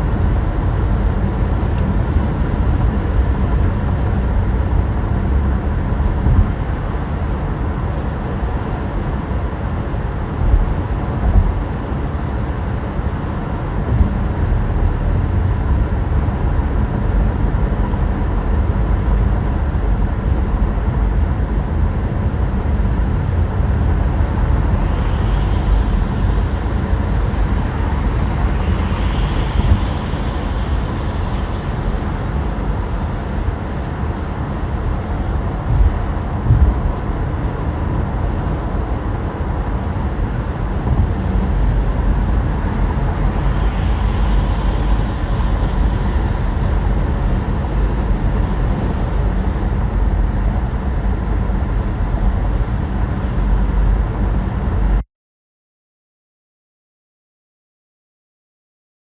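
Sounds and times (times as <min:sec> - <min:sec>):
tyre and wind rumble: 0:00.0 - 0:55.0.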